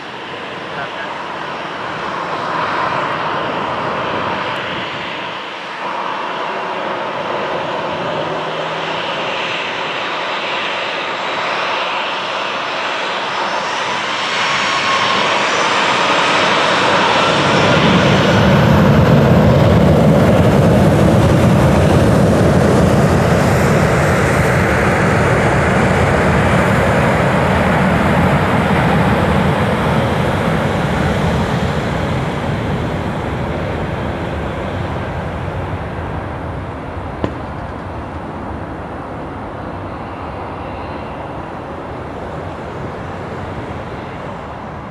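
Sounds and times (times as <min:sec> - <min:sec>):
jet engines whining and roaring: 0:00.0 - 0:44.9.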